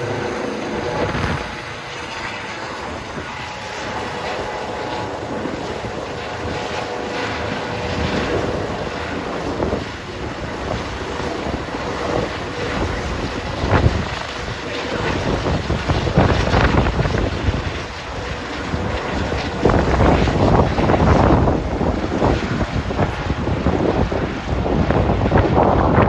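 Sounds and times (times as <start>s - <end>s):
faint turbine whine: 0.0s - 26.0s
helicopter rotors rumbling: 0.0s - 26.0s.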